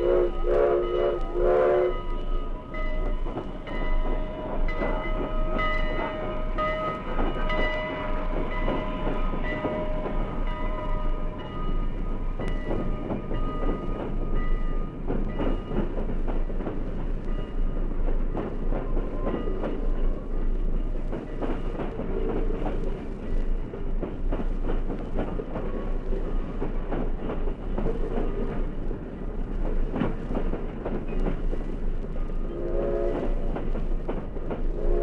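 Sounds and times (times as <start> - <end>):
train wheels clattering over rail joints: 3.0 - 35.0.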